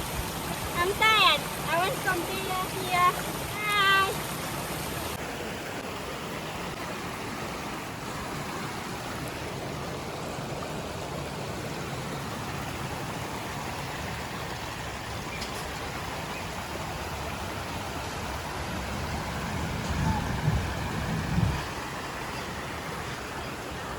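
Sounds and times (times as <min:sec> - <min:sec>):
river water rushing: 0:00.0 - 0:23.9.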